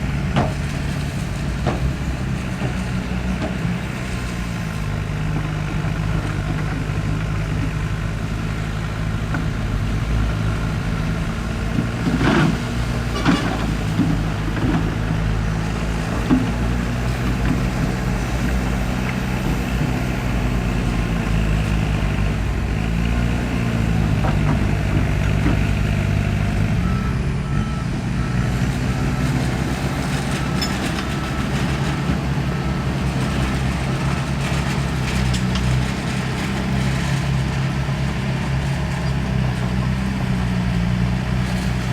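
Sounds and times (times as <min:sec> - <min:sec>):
heavy diesel engine under load: 0:00.0 - 0:41.9.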